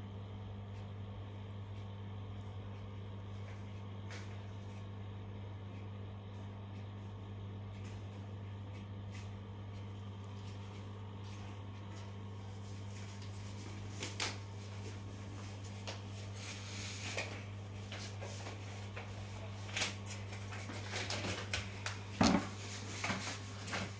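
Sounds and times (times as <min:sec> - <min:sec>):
aquarium equipment humming: 0:00.0 - 0:23.9.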